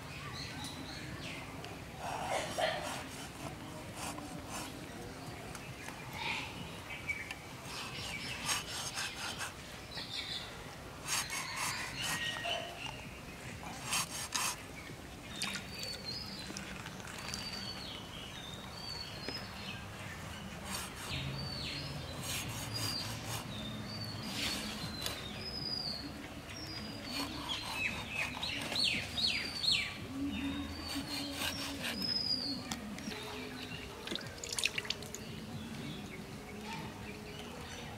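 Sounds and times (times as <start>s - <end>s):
birds chirping: 0.0s - 37.9s.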